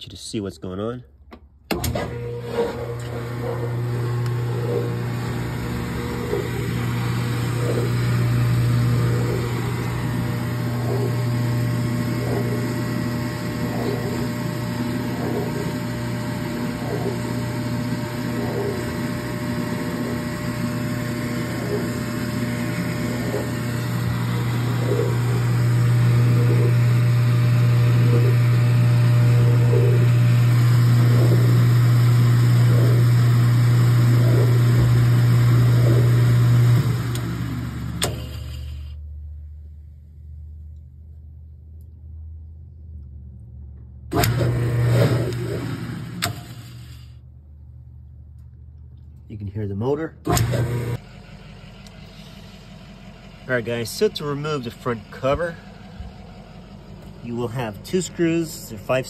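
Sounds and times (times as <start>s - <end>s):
washer motor humming: 1.7s - 38.8s, 44.1s - 47.0s, 50.3s - 59.0s.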